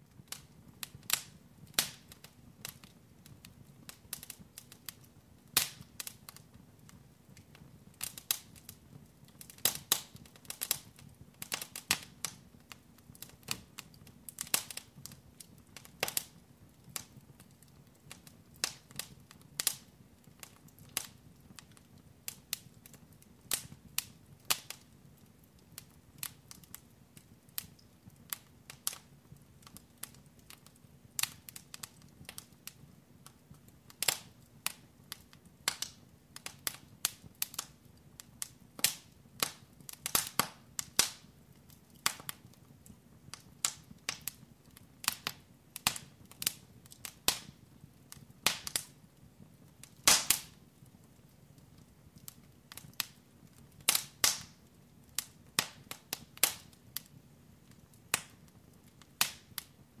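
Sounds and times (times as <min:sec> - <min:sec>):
wood fire crackling and popping: 0:00.0 - 1:00.0.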